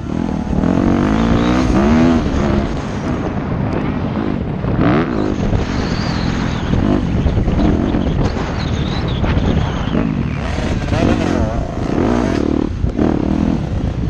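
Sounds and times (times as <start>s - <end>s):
motorcycle engine revving: 0.0s - 14.0s
wind on microphone: 0.0s - 14.0s.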